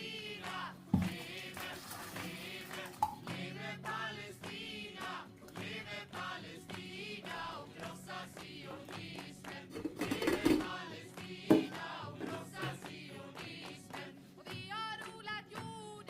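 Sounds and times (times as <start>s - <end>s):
music with singing and beat: 2.4s - 16.0s.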